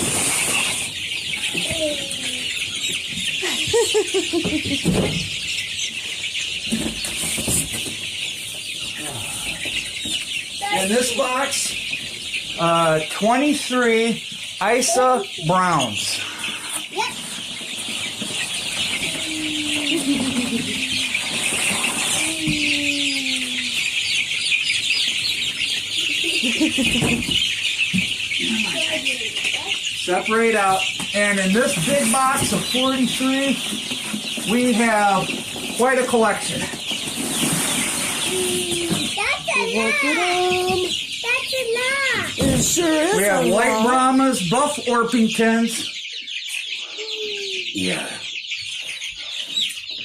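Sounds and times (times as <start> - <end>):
baby chicks peeping: 0.0 - 50.0.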